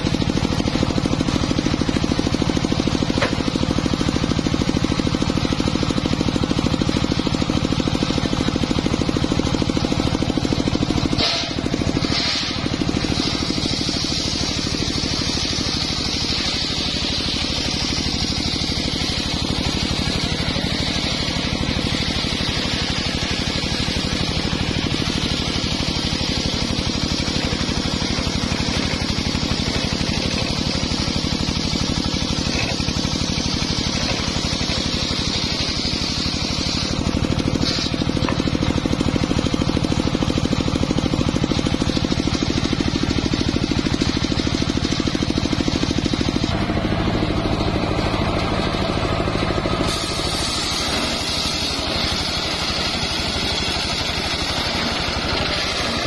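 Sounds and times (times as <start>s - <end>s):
engine running under load: 0.0s - 56.0s
saw blade cutting log: 0.0s - 56.0s.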